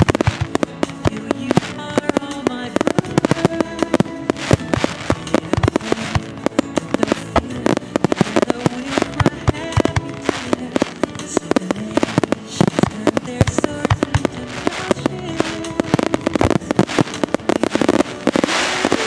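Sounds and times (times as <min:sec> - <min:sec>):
fireworks bursting: 0:00.0 - 0:19.0
music: 0:00.0 - 0:19.0.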